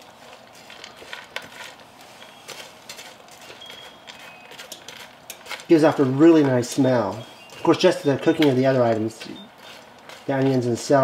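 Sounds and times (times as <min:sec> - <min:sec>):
spatula scraping skillet: 0:00.0 - 0:11.0.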